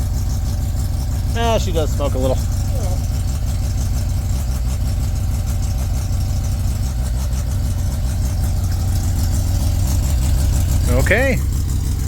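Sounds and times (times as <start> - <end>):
exhaust leaking: 0.0 - 12.0
rotary engine idling: 0.0 - 12.0.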